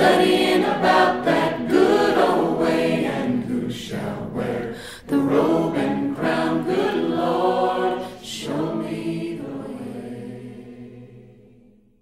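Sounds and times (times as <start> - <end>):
choir singing a gospel hymn: 0.0 - 11.9.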